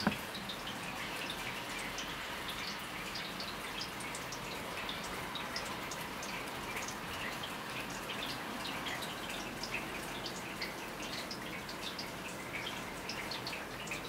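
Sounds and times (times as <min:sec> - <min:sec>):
water dripping: 0:00.0 - 0:14.0.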